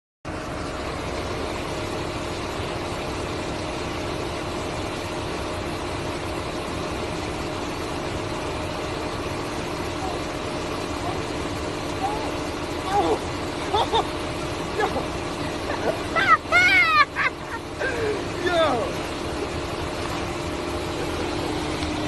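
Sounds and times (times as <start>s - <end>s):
car engine running: 0.3s - 22.0s.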